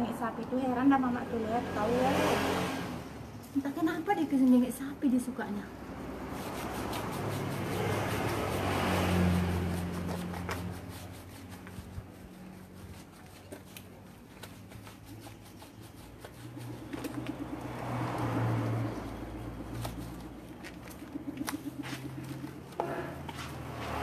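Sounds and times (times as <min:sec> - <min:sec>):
vehicle approaching: 0:00.0 - 0:24.0
vehicle passing by: 0:00.0 - 0:24.0.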